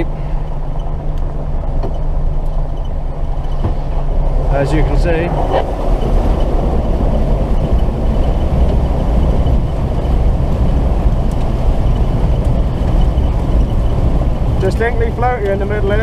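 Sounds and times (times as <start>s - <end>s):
diesel truck engine running: 0.0s - 16.0s
water rushing and churning: 3.1s - 16.0s.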